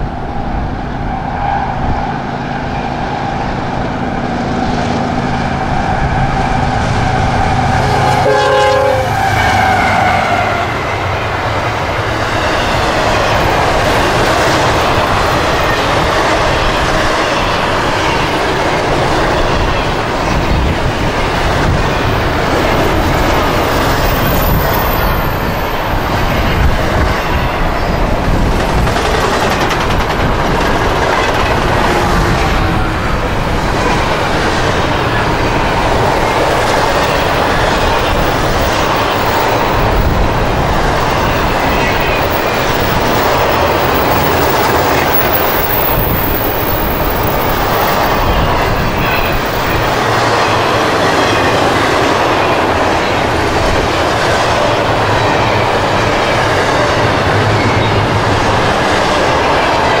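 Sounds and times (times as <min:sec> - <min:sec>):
freight train rumbling on rails: 0:00.0 - 1:00.0.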